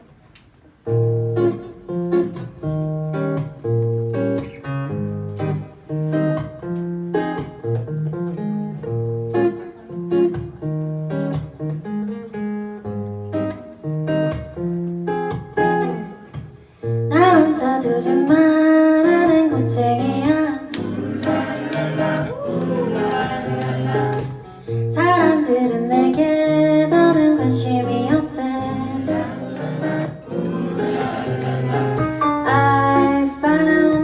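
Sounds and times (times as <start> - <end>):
acoustic guitar chords: 0.0 - 34.0.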